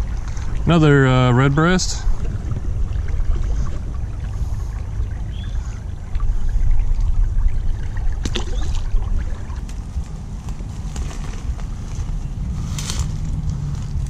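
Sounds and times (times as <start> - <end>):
creek water running: 0.0 - 14.0
fish splashing into water: 2.1 - 14.0.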